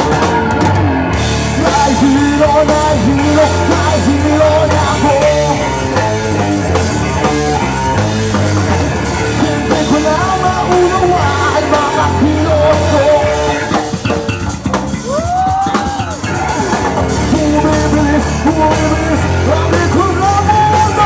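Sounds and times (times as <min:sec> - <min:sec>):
bass guitar: 0:00.0 - 0:21.0
drum kit: 0:00.0 - 0:21.0
electric guitars: 0:00.0 - 0:21.0.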